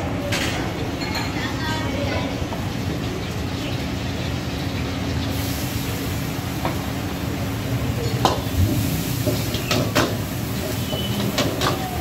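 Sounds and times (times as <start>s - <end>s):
gas burner roaring: 0.0s - 12.0s
food sizzling in a wok: 0.7s - 12.0s.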